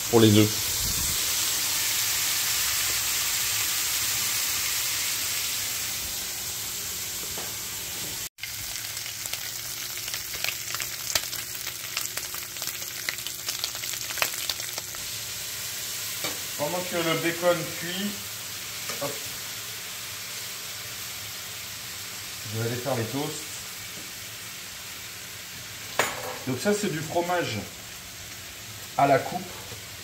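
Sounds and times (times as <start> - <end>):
bacon sizzling in a skillet: 0.0 - 30.0.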